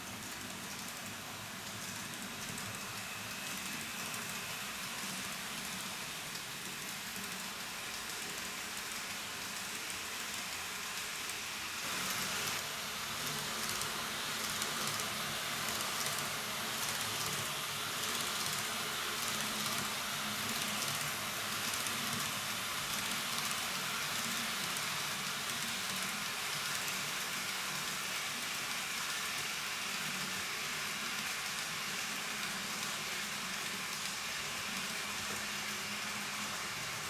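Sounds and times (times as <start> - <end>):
model train whirring: 0.0 - 37.0.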